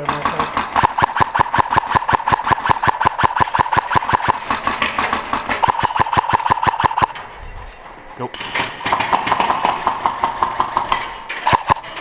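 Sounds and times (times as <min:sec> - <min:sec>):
rapid mechanical clicks with ringing: 0:00.0 - 0:12.0.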